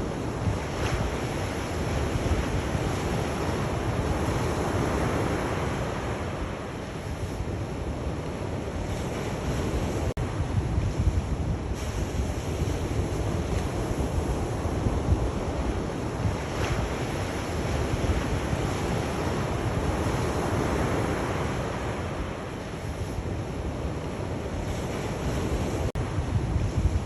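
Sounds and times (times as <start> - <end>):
sea waves washing onto shore: 0.0 - 27.0
wind buffeting microphone: 0.0 - 27.0.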